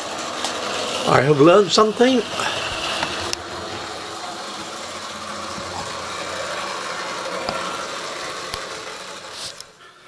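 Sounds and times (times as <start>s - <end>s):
model train motor hum: 0.0s - 10.0s
wheels on rails: 0.0s - 10.0s.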